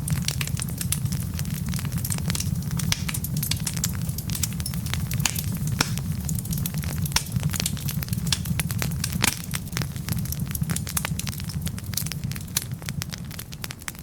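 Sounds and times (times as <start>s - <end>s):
fire crackles and pops: 0.0s - 14.0s
low rumble of burning logs: 0.0s - 14.0s.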